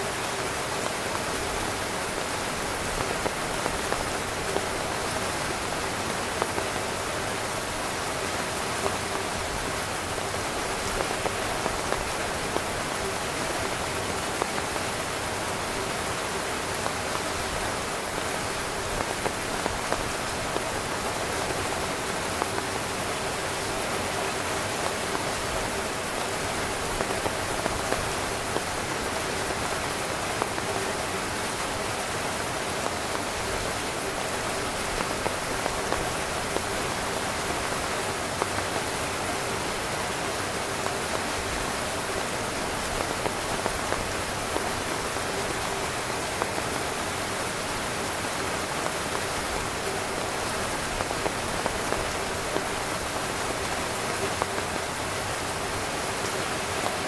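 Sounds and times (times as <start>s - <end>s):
heavy rain drumming on a tent: 0.0s - 57.0s.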